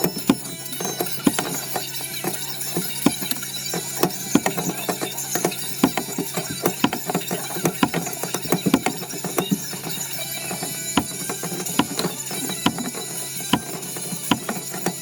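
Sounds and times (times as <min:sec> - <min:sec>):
hand tool clicking: 0:00.0 - 0:15.0.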